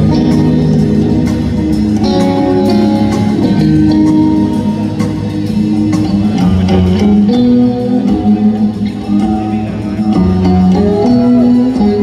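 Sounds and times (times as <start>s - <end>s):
electric guitars: 0.0s - 12.0s
rock band playing live: 0.0s - 12.0s.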